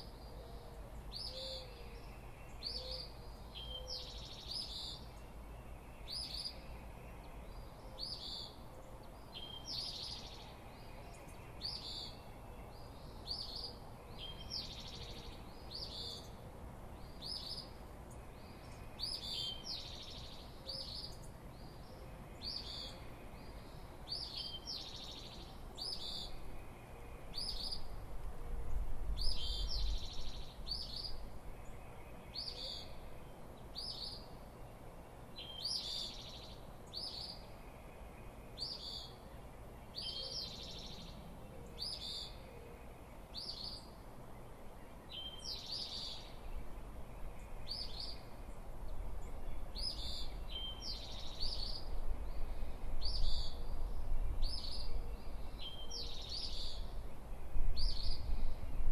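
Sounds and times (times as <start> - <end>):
songbird chirping: 0.0 - 58.9.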